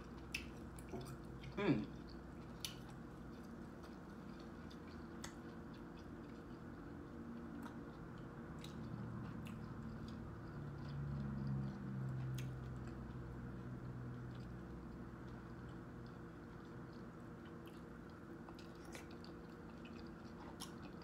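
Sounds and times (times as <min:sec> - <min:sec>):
chewing and wet mouth sounds: 0:00.0 - 0:21.0.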